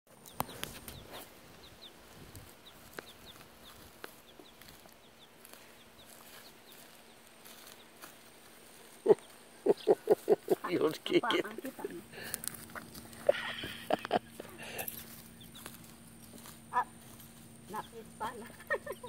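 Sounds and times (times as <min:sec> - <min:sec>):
chick peeping: 0:00.1 - 0:08.1, 0:09.0 - 0:19.0.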